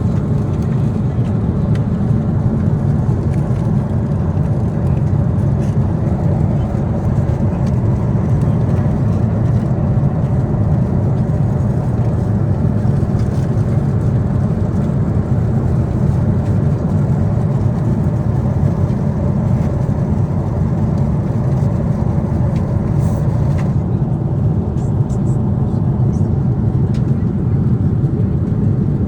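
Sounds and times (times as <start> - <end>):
aircraft cabin rumble: 0.0 - 29.0.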